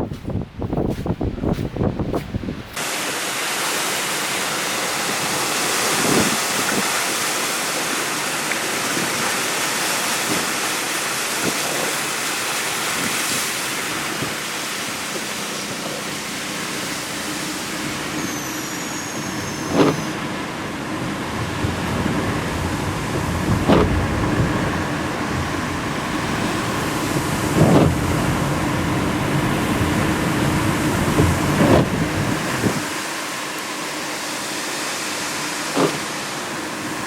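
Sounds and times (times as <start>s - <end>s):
rain and wind rushing: 0.0s - 37.0s.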